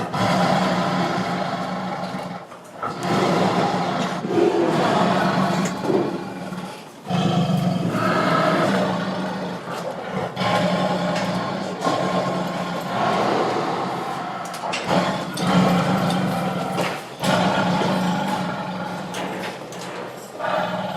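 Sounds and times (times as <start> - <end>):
tiger roaring: 0.0 - 20.9.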